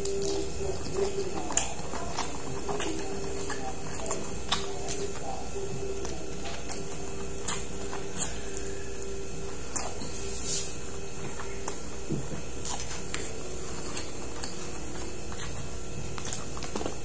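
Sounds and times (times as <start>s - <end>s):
person chewing and lip-smacking: 0.0s - 17.0s
steady hum: 0.0s - 17.0s.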